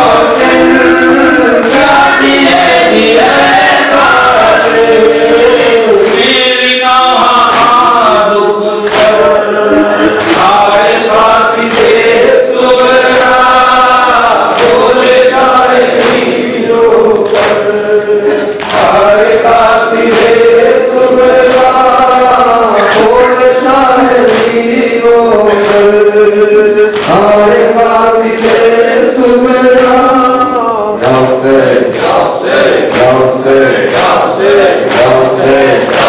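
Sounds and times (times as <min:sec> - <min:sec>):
men chanting a lament: 0:00.0 - 0:36.0
sharp rhythmic strikes: 0:00.0 - 0:36.0.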